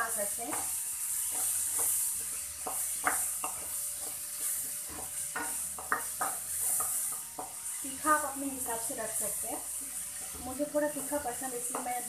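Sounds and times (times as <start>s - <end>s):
spatula scraping pan: 0.0s - 12.0s
vegetables sizzling in oil: 0.0s - 12.0s.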